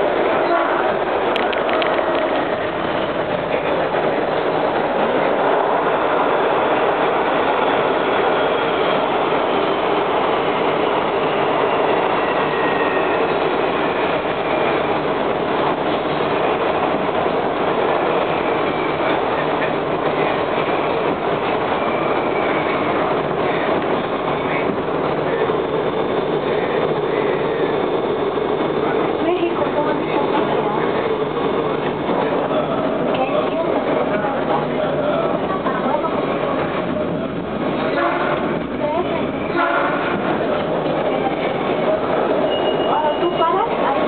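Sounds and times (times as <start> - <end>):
train wheels on rail: 0.0 - 44.0.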